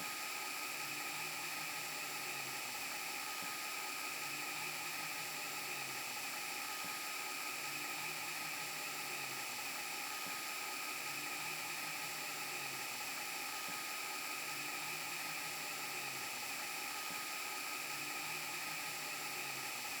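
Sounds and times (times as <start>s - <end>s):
tape hiss and static: 0.0s - 20.0s.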